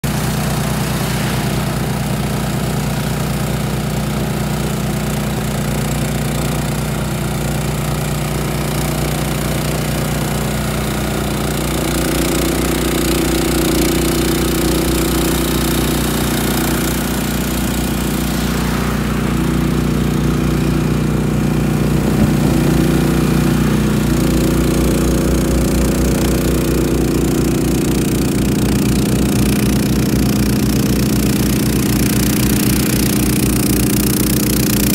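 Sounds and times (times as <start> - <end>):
auger cutting through snow: 0.0 - 3.1, 5.2 - 34.9
snowblower engine under load: 0.0 - 34.9.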